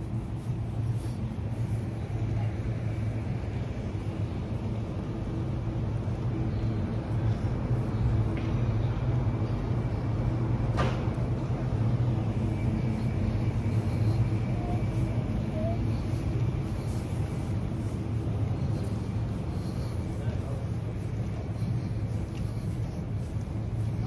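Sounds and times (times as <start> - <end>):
low mechanical drone: 0.0 - 24.0.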